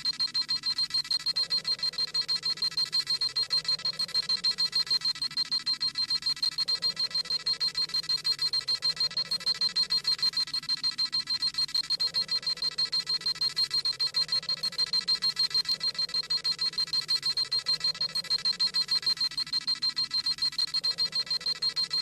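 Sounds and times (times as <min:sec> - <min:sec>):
rapid electronic beeping: 0:00.0 - 0:22.0.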